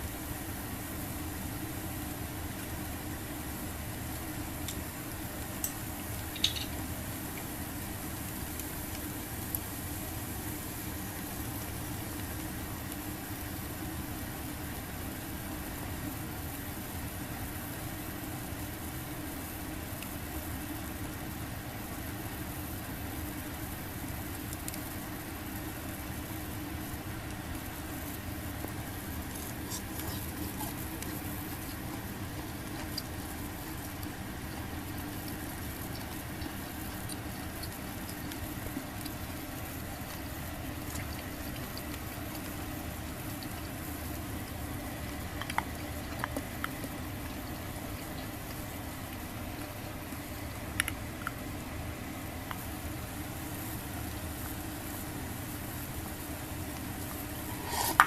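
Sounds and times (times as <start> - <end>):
low steady hum: 0.0 - 58.0
skewers sizzling on a grill: 0.0 - 58.0
fire crackles and ticks: 4.0 - 14.1, 16.6 - 53.3.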